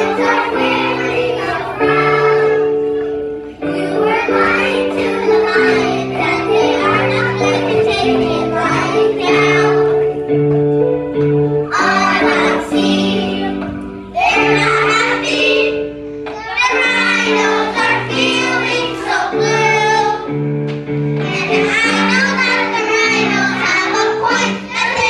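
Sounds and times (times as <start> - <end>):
children singing: 0.0 - 10.2, 11.7 - 20.4, 21.2 - 25.0
instrumental backing music: 0.0 - 25.0.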